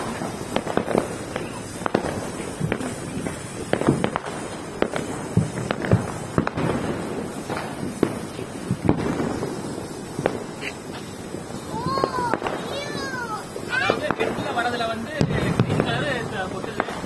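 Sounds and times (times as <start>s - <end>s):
crackling pops: 0.0s - 17.0s
firework torch hissing: 0.0s - 17.0s.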